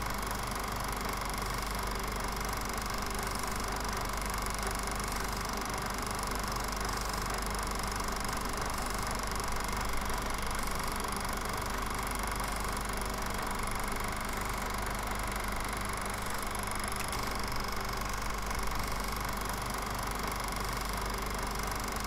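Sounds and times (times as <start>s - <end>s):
film projector running: 0.0s - 22.0s.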